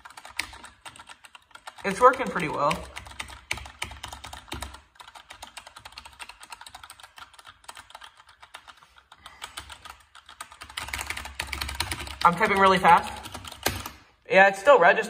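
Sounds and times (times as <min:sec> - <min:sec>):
mechanical keyboard typing: 0:00.0 - 0:14.0.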